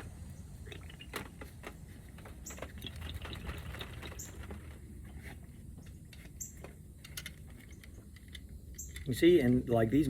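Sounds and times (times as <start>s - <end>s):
hand tools and metal parts clicking: 0.8s - 9.9s.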